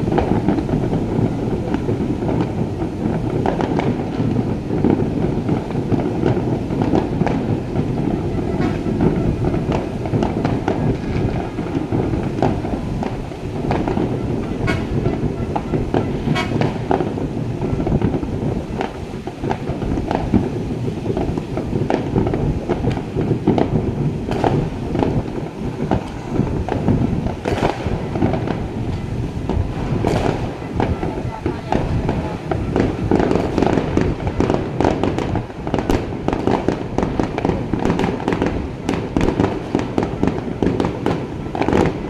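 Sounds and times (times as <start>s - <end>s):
steady rumble: 0.0s - 36.2s
fireworks bangs and crackling: 0.0s - 42.0s
sharp firework cracks: 0.0s - 42.0s.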